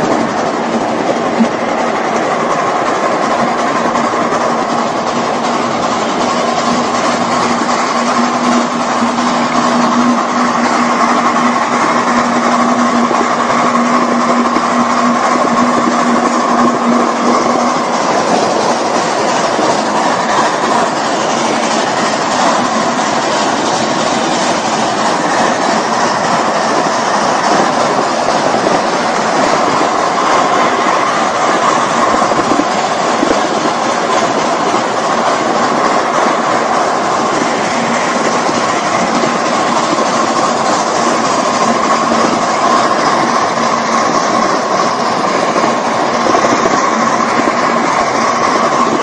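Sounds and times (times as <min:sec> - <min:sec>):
train wheels rolling on rails: 0:00.0 - 0:49.0.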